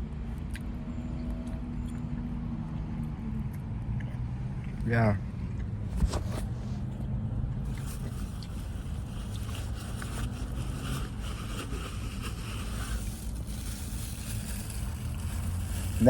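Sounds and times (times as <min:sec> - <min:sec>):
low rumble with hum: 0:00.0 - 0:16.0.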